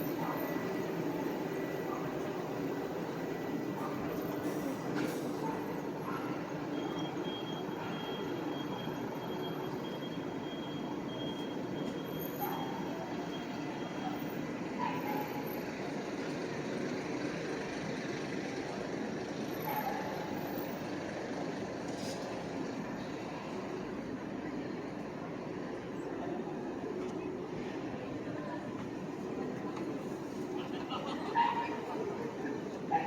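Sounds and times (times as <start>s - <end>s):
train running on rails: 0.0s - 33.0s.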